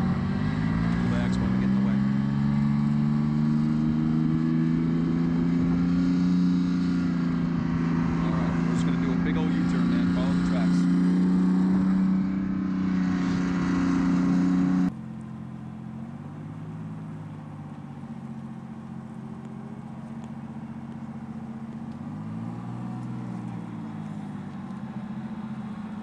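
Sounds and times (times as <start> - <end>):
armored vehicle diesel engine: 0.0 - 26.0.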